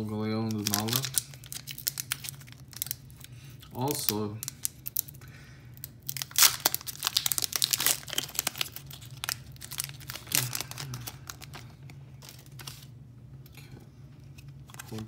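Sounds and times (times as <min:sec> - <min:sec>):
foil wrapper tearing and crinkling: 0:00.4 - 0:05.2, 0:05.8 - 0:12.9, 0:14.6 - 0:15.0.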